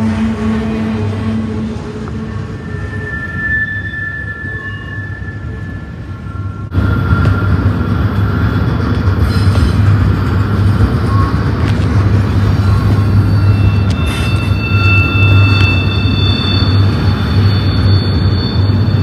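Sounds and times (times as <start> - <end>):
high-pitched wheel squeals: 0.0 - 9.9, 10.9 - 19.0
steel wheels rumbling on rail: 0.0 - 19.0.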